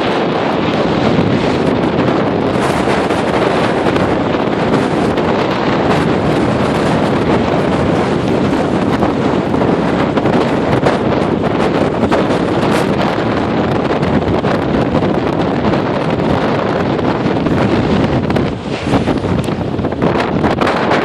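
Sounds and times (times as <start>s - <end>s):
lake waves surging: 0.0s - 21.0s
wind buffeting microphone: 0.0s - 21.0s.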